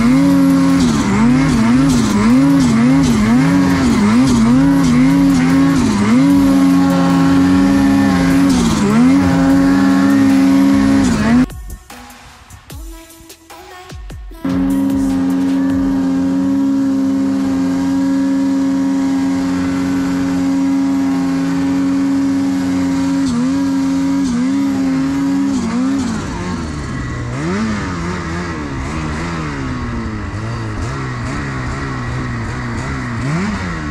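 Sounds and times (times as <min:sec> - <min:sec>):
snowmobile engine revving: 0:00.0 - 0:11.5, 0:14.4 - 0:33.9.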